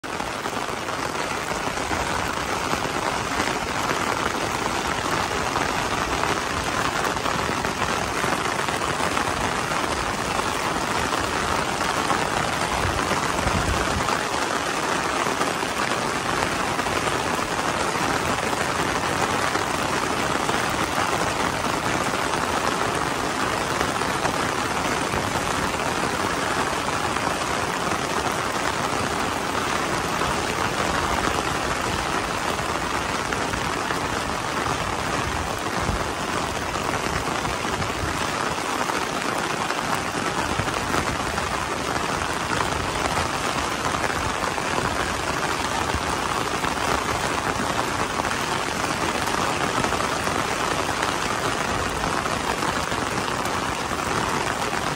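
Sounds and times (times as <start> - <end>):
heavy rain on fabric umbrella: 0.0 - 54.9.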